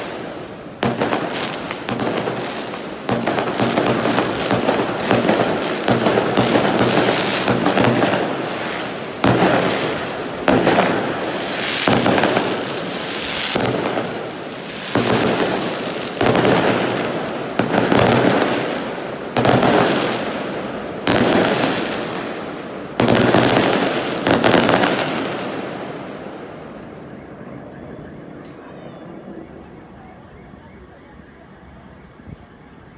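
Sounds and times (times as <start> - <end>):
fireworks cracking and banging: 0.0 - 26.4.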